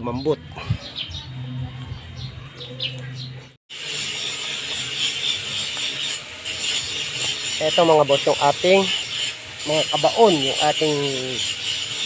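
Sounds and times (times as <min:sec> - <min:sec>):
small birds chirping: 0:00.0 - 0:12.0
outdoor background noise with hiss: 0:00.6 - 0:12.0.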